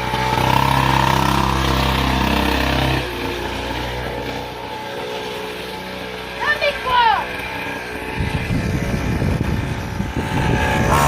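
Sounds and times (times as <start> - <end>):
motocross bike engine running: 0.0 - 11.0.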